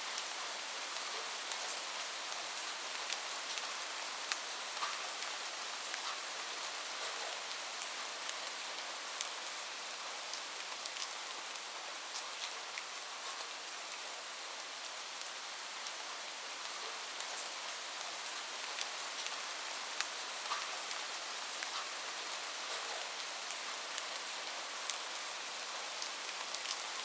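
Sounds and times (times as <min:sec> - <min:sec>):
rain falling on a roof: 0:00.0 - 0:27.0.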